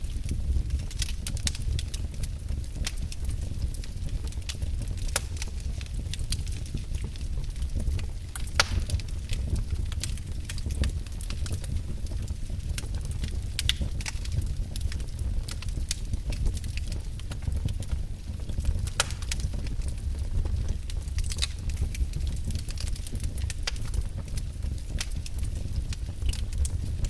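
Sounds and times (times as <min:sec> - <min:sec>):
wood fire crackling: 0:00.0 - 0:27.0
sharp pops of fire: 0:02.8 - 0:17.8, 0:18.5 - 0:26.8.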